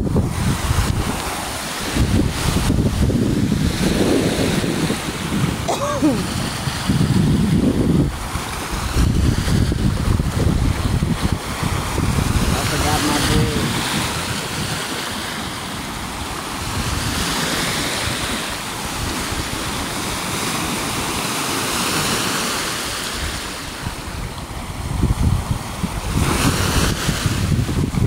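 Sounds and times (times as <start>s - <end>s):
wind buffeting microphone: 0.0s - 22.2s, 23.1s - 28.0s
small waves washing onto beach: 0.0s - 28.0s.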